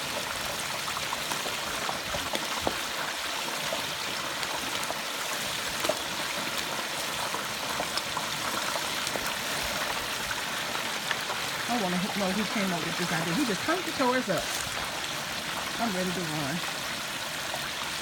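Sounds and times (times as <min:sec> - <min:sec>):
oil sizzling in fryer: 0:00.0 - 0:18.0.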